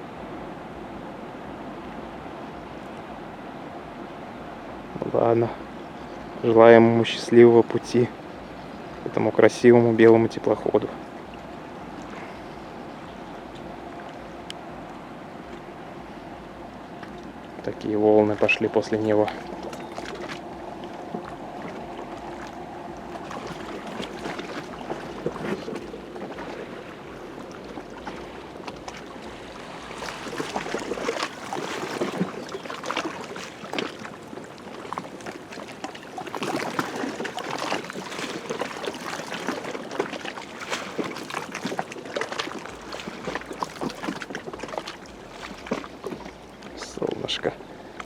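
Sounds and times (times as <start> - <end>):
waves splashing against riverbank: 0.0 - 48.0.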